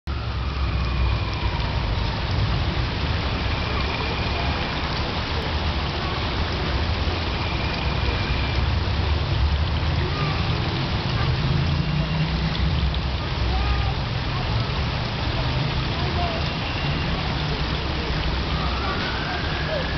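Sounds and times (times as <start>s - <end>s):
fountain water splashing: 0.1s - 19.9s.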